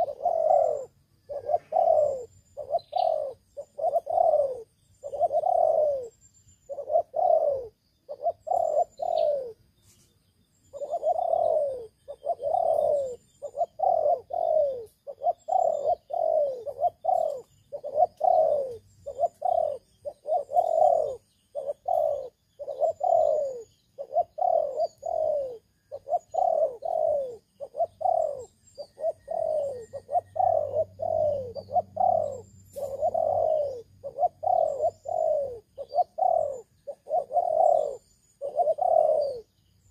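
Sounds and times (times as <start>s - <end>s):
dove cooing: 0.0s - 9.6s, 10.7s - 39.9s
small birds chirping: 0.0s - 39.9s.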